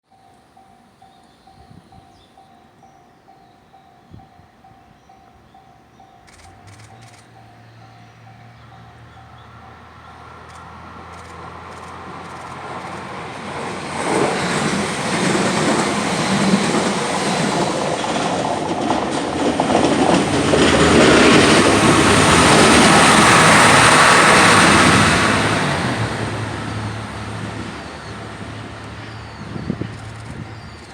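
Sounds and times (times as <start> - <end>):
train engines humming: 0.1 - 30.9
train wheels on rails: 4.2 - 30.9.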